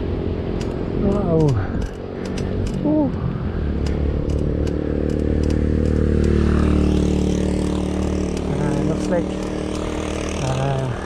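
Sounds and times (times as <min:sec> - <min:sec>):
motorcycle passing by: 0:00.0 - 0:11.0.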